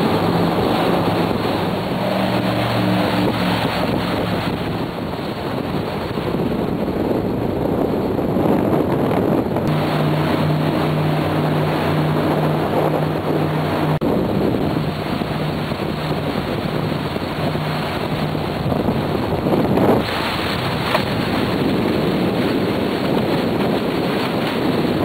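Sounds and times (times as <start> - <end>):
boat engine hum: 0.0 - 25.0
water against hull: 0.0 - 25.0
wind rushing on microphone: 0.0 - 25.0.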